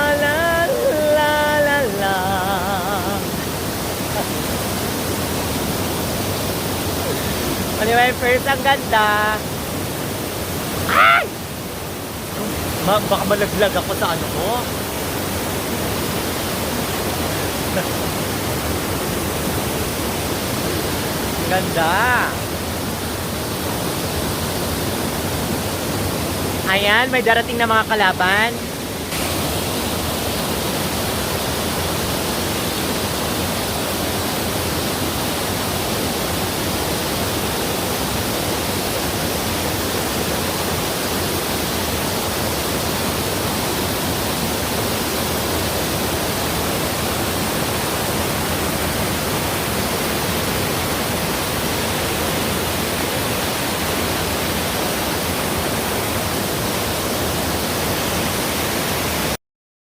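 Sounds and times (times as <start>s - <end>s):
waterfall rushing: 0.0s - 59.4s.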